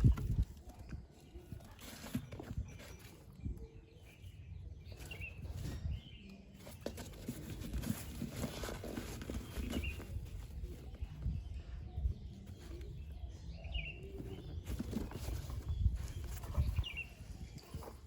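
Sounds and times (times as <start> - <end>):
shoes and packaging handled: 0.0 - 11.4, 12.3 - 18.0
bird chirps: 0.3 - 18.0.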